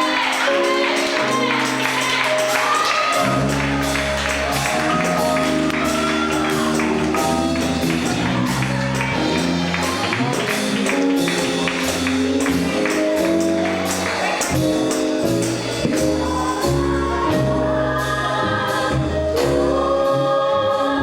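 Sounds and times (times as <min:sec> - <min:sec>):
gospel band playing: 0:00.0 - 0:21.0.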